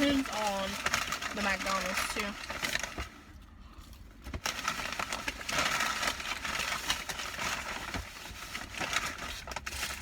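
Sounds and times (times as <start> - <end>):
paper bag crinkling: 0.0 - 3.4, 4.0 - 10.0.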